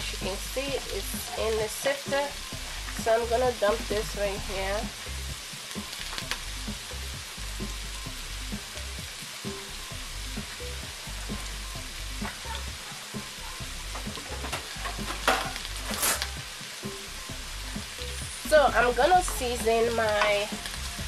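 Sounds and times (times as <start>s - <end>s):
mushrooms and onions sizzling: 0.0s - 21.0s.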